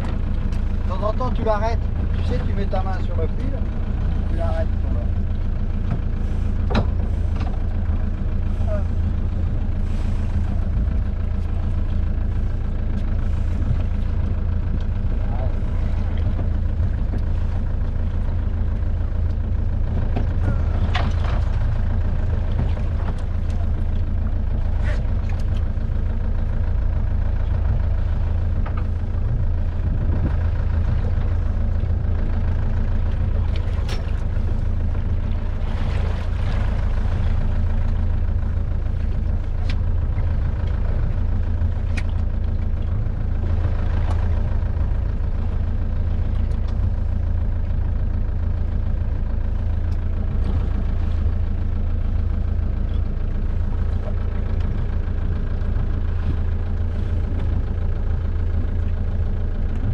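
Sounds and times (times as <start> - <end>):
motorboat engine humming: 0.0 - 59.9.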